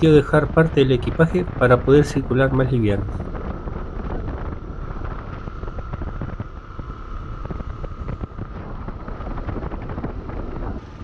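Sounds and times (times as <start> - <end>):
motorcycle engine rumble: 0.0 - 11.0
thin steady whine: 0.0 - 11.0
wind on microphone: 0.0 - 11.0.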